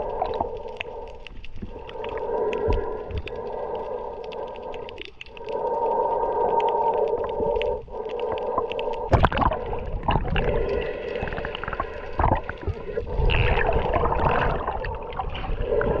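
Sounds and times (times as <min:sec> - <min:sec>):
churning water and bubbles: 0:00.0 - 0:16.0
crackling clicks: 0:00.0 - 0:16.0
underwater droning hum: 0:00.0 - 0:16.0.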